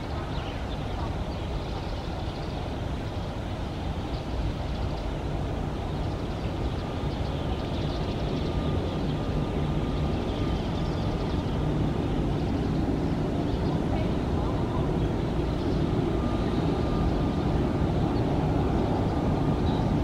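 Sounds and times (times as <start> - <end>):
turboprop airliner drone: 0.0 - 20.0.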